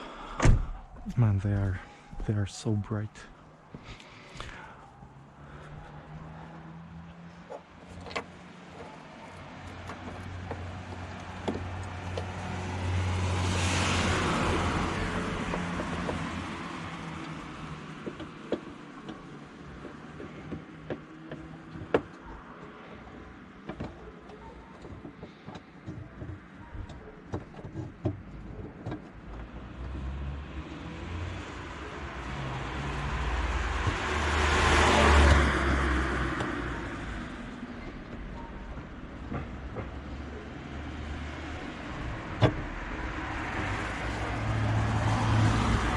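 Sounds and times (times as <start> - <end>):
cars passing by: 0.0 - 45.9.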